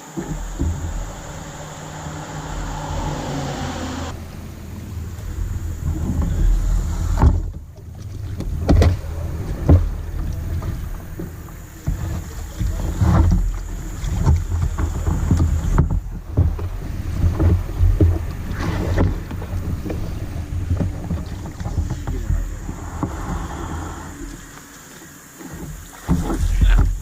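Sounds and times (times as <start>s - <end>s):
steady low rumble: 0.0s - 24.8s
paddle knocking against hull: 0.0s - 27.0s
paddle splashes: 0.0s - 27.0s.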